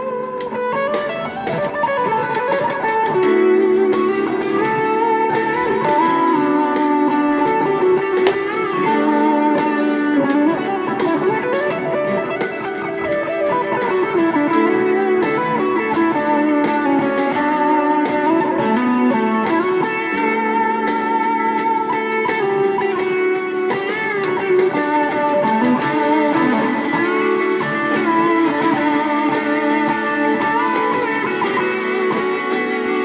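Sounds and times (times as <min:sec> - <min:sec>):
overdriven electric guitar lead: 0:00.0 - 0:33.0.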